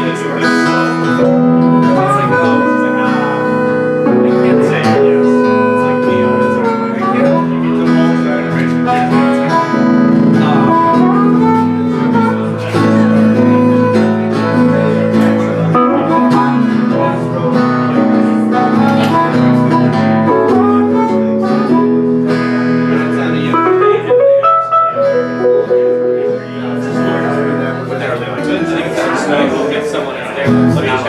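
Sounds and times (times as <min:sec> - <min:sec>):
country band playing: 0:00.0 - 0:31.0
plucked and strummed guitar: 0:00.0 - 0:31.0.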